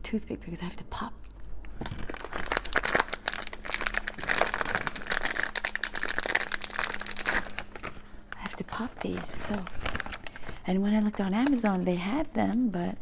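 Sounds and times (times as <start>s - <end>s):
plastic packaging crinkling: 1.4s - 13.0s.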